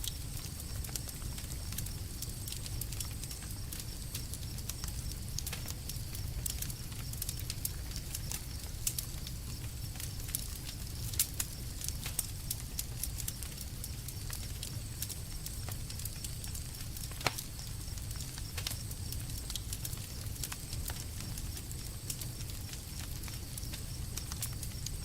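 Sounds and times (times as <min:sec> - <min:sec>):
burning wood crackling: 0:00.0 - 0:25.0
flames rumbling: 0:00.0 - 0:25.0.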